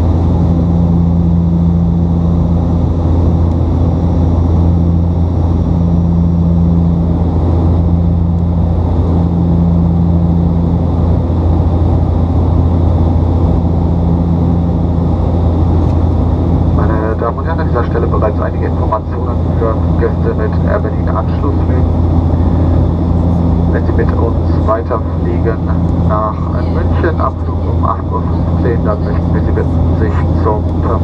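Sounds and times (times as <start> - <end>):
higher propeller tone: 0.0 - 31.0
turboprop cabin drone: 0.0 - 31.0.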